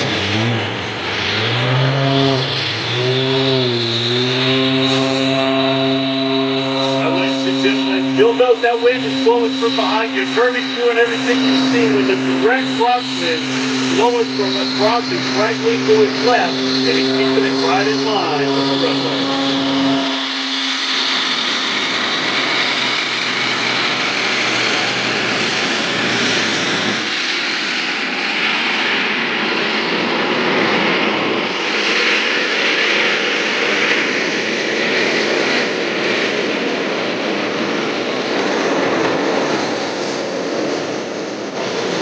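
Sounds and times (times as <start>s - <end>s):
propeller plane engine rasping: 0.0s - 42.0s.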